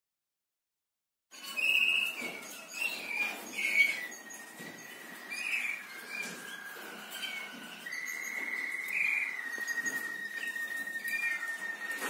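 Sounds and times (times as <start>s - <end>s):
canary singing trills: 1.3s - 12.0s.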